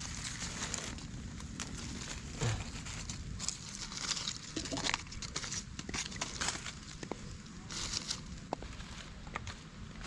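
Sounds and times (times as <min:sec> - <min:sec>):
rustling in dry leaves: 0:00.0 - 0:10.0.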